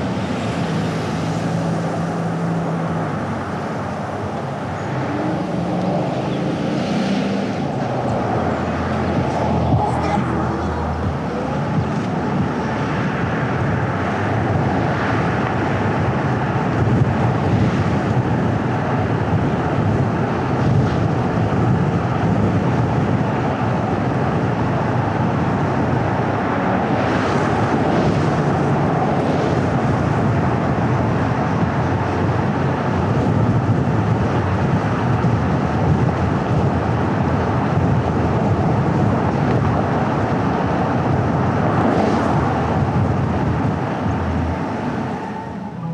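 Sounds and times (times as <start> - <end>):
car tyre and engine rumble: 0.0 - 45.9
wind: 0.0 - 45.9.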